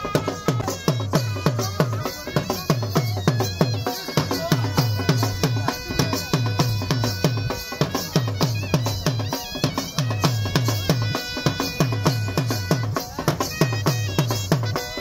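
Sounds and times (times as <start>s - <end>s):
reed pipes holding tones: 0.0s - 15.0s.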